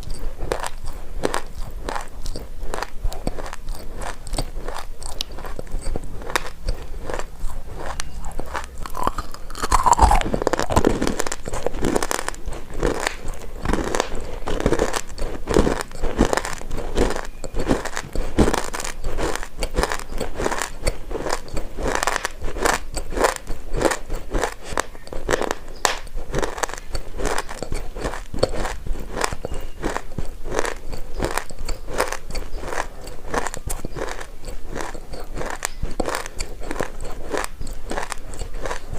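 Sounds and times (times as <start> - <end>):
dry clay crunching when chewed: 0.0 - 38.9.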